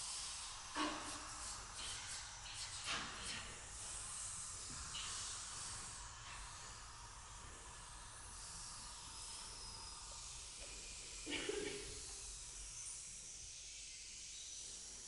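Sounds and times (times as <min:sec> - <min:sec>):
choir making airy hissing sounds: 0:00.0 - 0:15.0.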